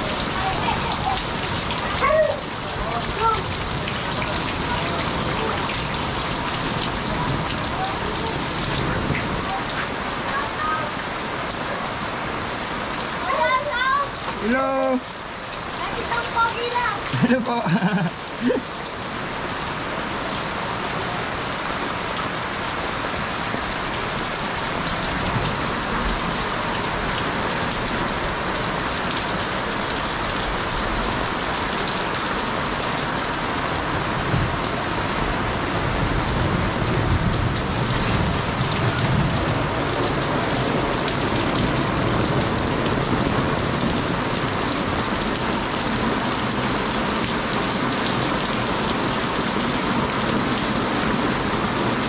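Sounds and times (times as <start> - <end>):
heavy rain on concrete: 0.0 - 52.0.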